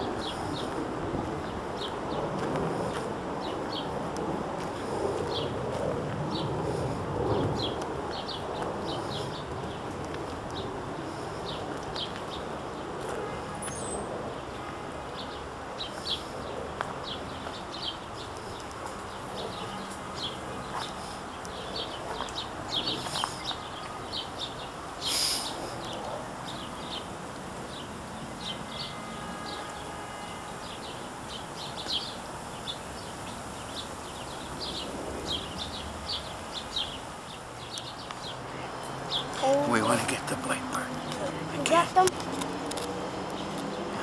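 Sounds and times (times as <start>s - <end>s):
small birds chirping: 6.3s - 12.8s, 13.6s - 29.9s, 30.6s - 44.0s.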